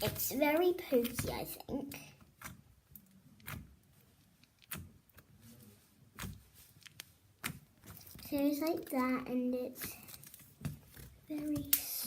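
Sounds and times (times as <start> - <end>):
slime squelching: 0.0 - 12.0.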